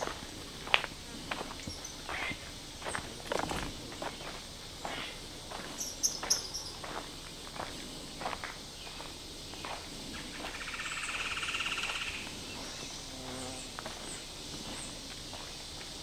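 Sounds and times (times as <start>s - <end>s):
footsteps on dirt trail: 0.0s - 10.6s, 11.8s - 16.0s.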